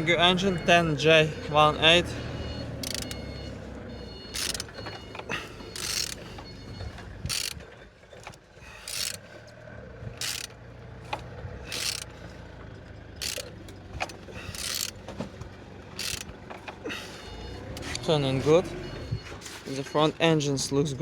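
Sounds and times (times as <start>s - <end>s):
engine turned over by hand: 0.0s - 19.9s.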